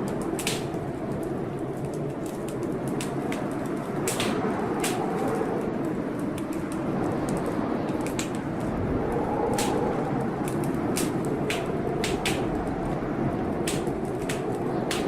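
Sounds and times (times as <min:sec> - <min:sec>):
blizzard wind howling: 0:00.0 - 0:15.0
wood fire crackling and popping: 0:00.0 - 0:15.0.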